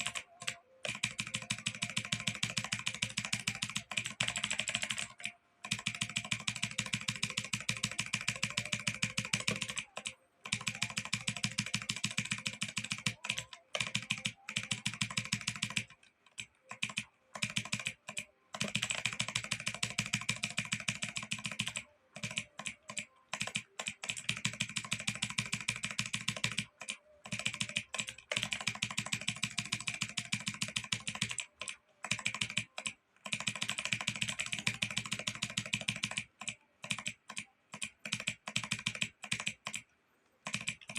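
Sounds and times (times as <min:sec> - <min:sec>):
keyboard typing: 0:00.0 - 0:40.9.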